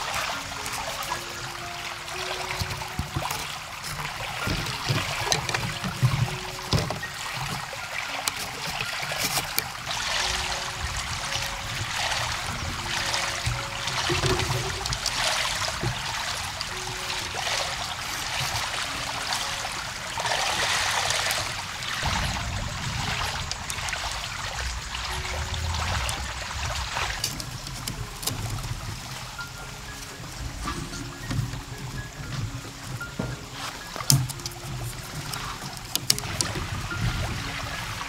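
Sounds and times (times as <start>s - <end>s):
water trickling: 0.0s - 38.0s.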